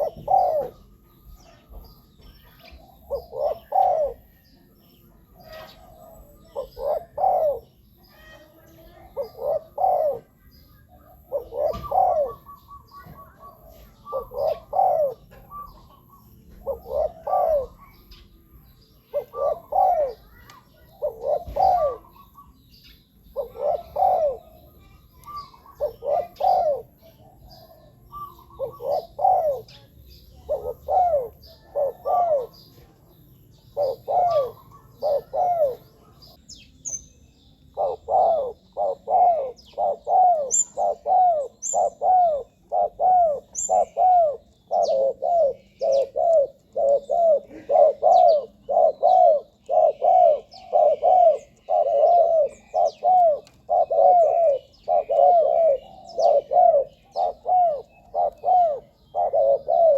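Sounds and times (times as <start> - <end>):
dove cooing: 0.0 - 22.6, 23.2 - 36.4, 37.7 - 59.9
faint small bird chirps: 0.0 - 59.9.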